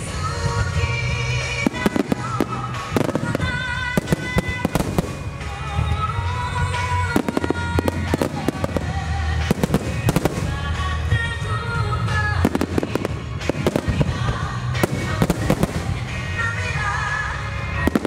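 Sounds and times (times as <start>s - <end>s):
fireworks bangs: 0.0s - 17.0s, 17.7s - 18.0s
music with sustained tones: 0.0s - 18.0s.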